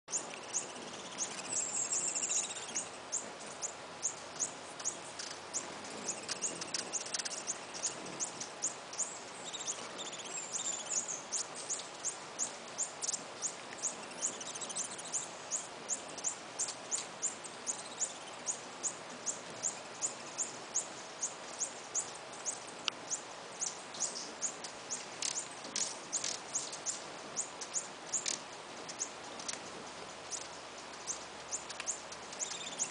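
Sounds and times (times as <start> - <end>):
background hiss: 0.1 - 32.9
other bird calls: 0.1 - 32.9.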